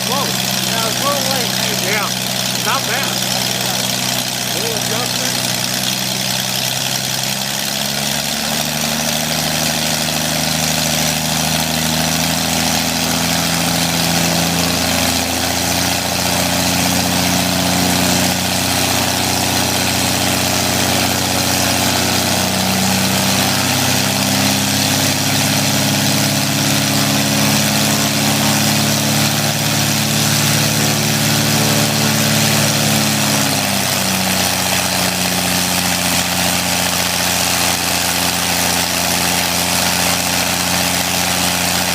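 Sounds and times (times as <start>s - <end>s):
aircraft engine running: 0.0s - 41.9s.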